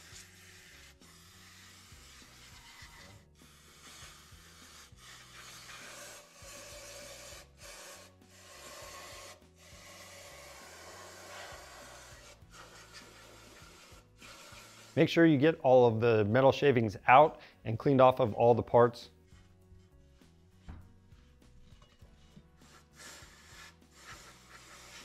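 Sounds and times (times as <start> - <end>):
scrubbing on metal parts: 0.0 - 15.2, 19.1 - 25.0
quiet background music: 0.0 - 25.0.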